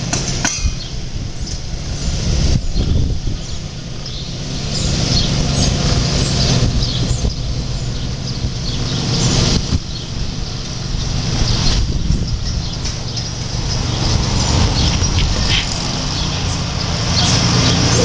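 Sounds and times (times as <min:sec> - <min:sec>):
birds chirping: 0:00.0 - 0:01.8, 0:02.5 - 0:18.0
vehicle engine running: 0:00.0 - 0:18.0.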